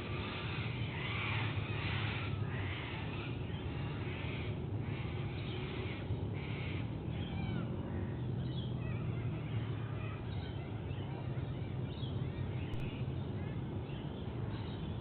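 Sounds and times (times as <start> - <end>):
birds chirping: 0.0 - 15.0
harsh bird calls: 0.0 - 15.0
steady low hum: 0.0 - 15.0.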